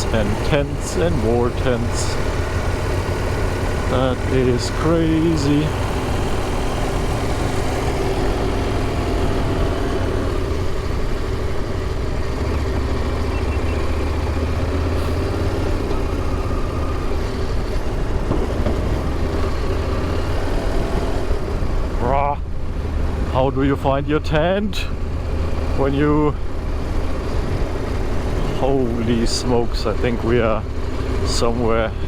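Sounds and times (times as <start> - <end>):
motorcycle engine rumbling: 0.0 - 32.0
road and wind noise: 0.0 - 32.0.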